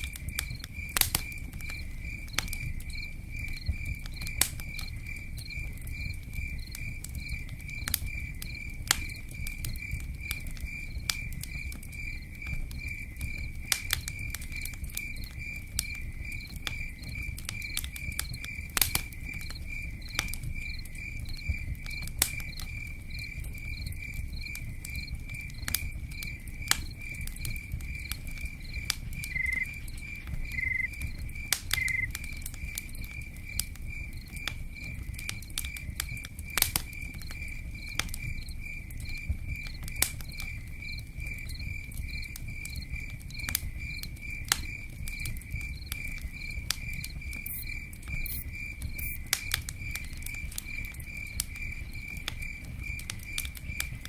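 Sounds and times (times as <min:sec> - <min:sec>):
campfire crackling and popping: 0:00.0 - 0:54.0
cricket chirping: 0:00.0 - 0:54.0
insect chirps: 0:00.0 - 0:54.0
low rumble and pattering: 0:00.0 - 0:54.0.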